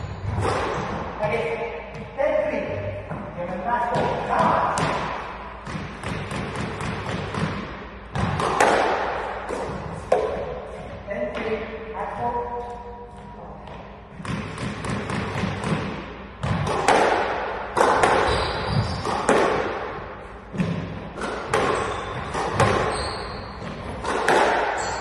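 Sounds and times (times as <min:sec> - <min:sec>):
squash ball hitting rackets and walls: 0:00.0 - 0:25.0.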